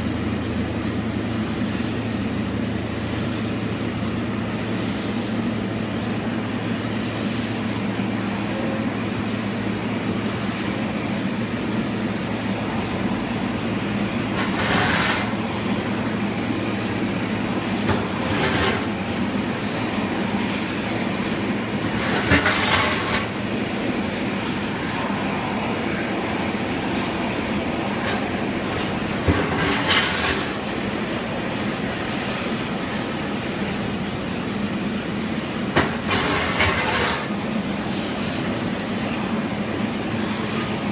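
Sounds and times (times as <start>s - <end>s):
low mechanical rumble with hum: 0.0s - 40.9s.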